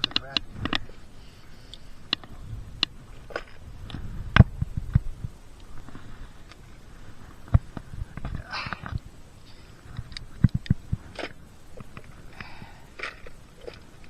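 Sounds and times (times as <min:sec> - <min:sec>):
handling clicks and rustles: 0:00.0 - 0:14.0.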